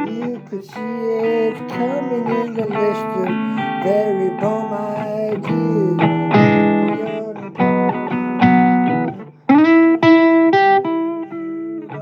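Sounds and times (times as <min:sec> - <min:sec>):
person singing: 0:00.0 - 0:08.4, 0:09.0 - 0:12.0
blues guitar chords: 0:00.0 - 0:12.0.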